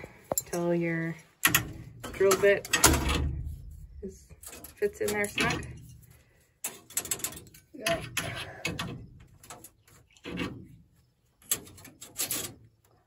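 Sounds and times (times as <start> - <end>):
metallic clicks and knocks: 0.2 - 10.6, 11.4 - 12.9.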